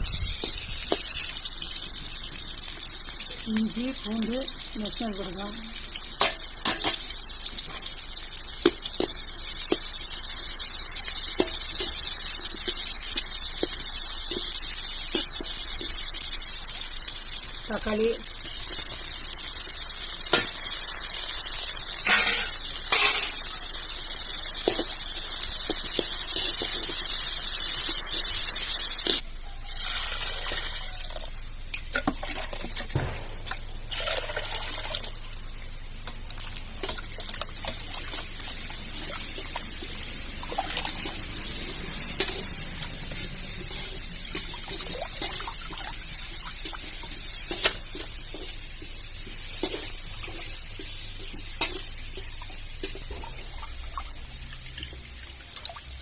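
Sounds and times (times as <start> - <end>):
tomatoes sizzling in oil: 0.0 - 56.0.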